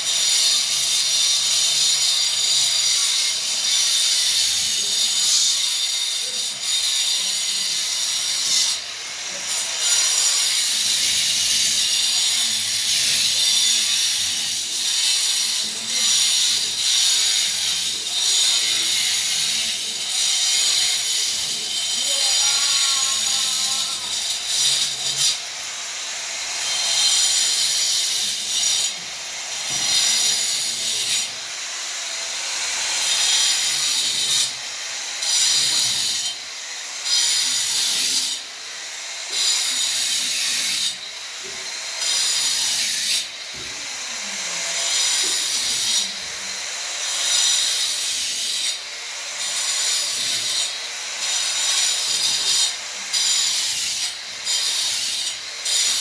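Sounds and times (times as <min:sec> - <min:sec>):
angle grinder whining: 0:00.0 - 0:56.0.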